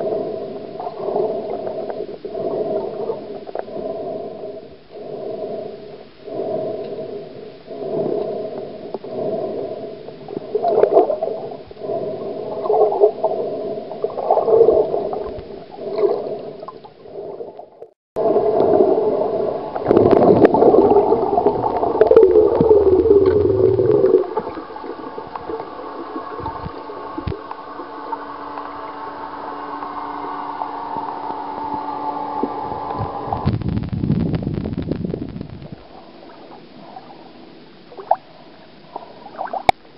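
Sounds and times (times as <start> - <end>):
motorboat engine underwater: 0.0 - 39.9.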